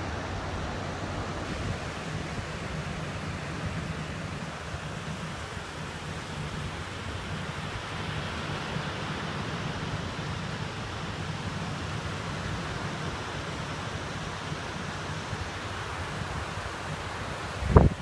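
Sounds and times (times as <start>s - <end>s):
ocean surf: 0.0s - 18.0s
wind rumbling on microphone: 0.0s - 18.0s.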